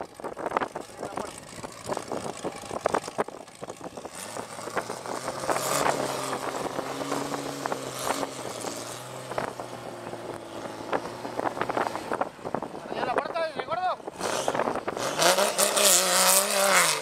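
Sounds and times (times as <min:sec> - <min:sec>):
buggy engine under load: 0:00.0 - 0:17.0.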